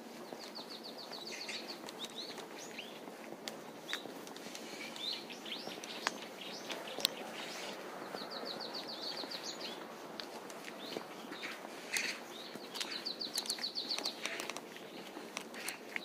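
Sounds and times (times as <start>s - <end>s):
outdoor background noise: 0.0s - 16.0s
small birds chirping: 0.0s - 16.0s.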